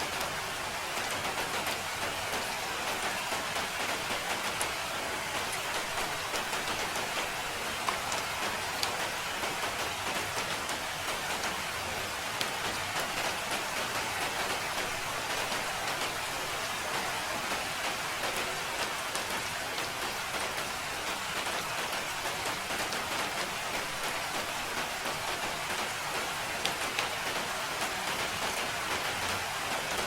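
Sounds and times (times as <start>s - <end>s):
steady rainfall: 0.0s - 30.0s.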